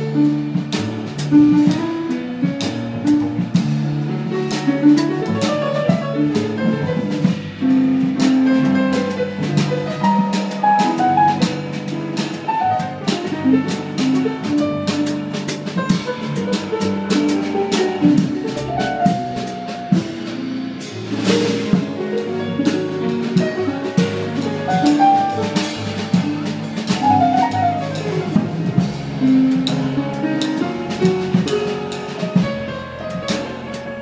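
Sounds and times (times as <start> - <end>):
jazz band playing: 0.0 - 34.0.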